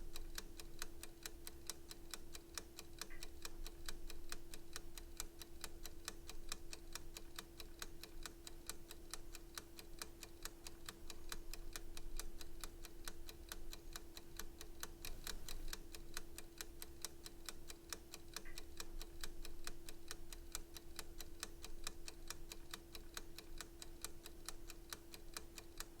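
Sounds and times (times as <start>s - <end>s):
faint steady hum: 0.0s - 26.0s
timer ticking fast: 0.0s - 26.0s.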